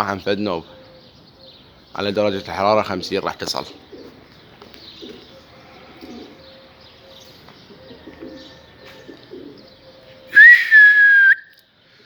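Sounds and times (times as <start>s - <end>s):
pigeons cooing: 0.0s - 10.4s.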